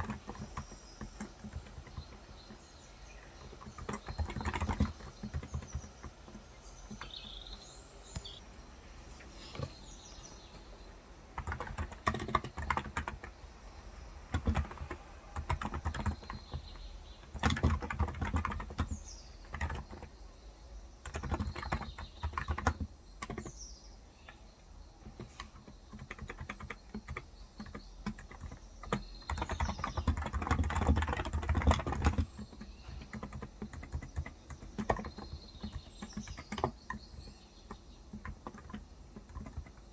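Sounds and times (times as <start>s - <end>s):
keyboard typing: 0.0s - 8.4s, 9.4s - 13.4s, 14.3s - 20.2s, 21.0s - 23.6s, 25.0s - 39.9s
birds chirping faintly: 0.0s - 39.9s.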